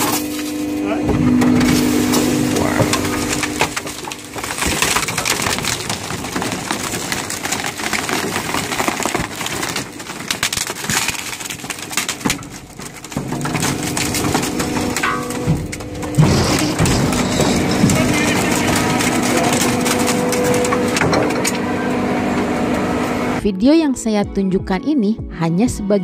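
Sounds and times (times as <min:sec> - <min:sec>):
compactor machinery hum: 0:00.0 - 0:23.4
wood cracking and splintering: 0:00.0 - 0:23.4.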